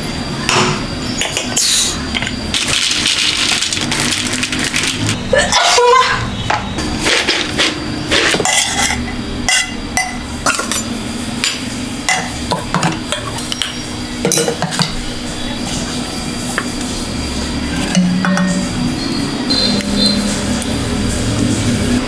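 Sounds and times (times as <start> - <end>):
utensils clinking on pots: 0.5 - 20.8.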